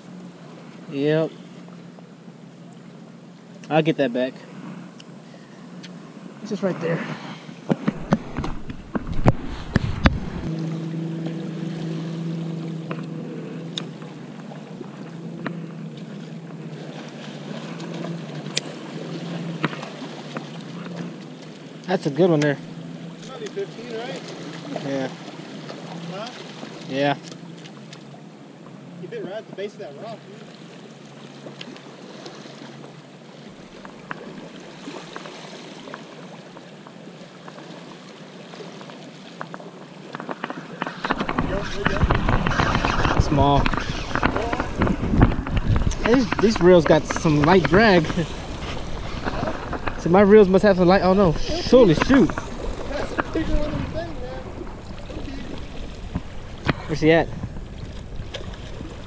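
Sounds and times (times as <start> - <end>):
boat motor droning: 0.0 - 59.0
seawater lapping over rocks: 0.0 - 59.0
small splashes: 7.1 - 28.2, 30.2 - 59.0.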